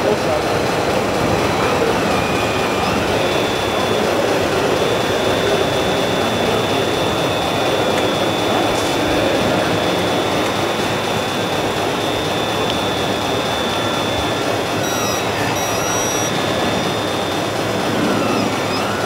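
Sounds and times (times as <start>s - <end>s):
busy exhibition hall din: 0.0s - 19.0s
thin high whine: 0.0s - 19.0s.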